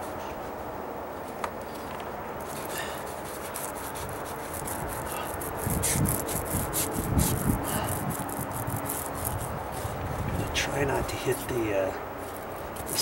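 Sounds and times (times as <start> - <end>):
paint roller scratchy strokes: 2.4 - 13.0.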